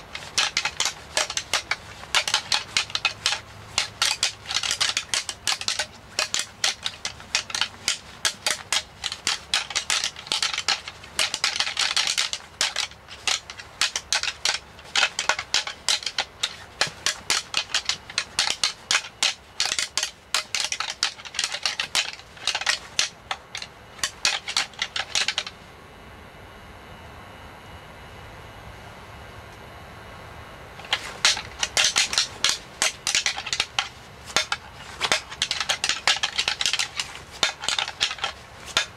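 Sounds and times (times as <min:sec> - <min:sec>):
antlers clashing and clacking: 0:00.0 - 0:25.5, 0:30.8 - 0:38.9.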